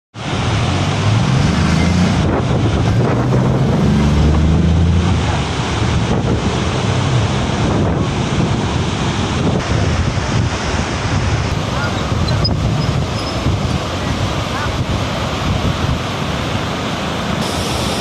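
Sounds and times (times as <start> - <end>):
rushing mountain water: 0.1 - 18.0
wind buffeting microphone: 0.3 - 17.5.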